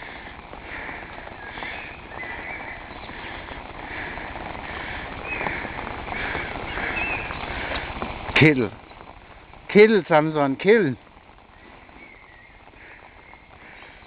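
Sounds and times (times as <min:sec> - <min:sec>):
footsteps on wet pavement: 0:00.0 - 0:14.0
steady rain hiss: 0:00.0 - 0:14.0.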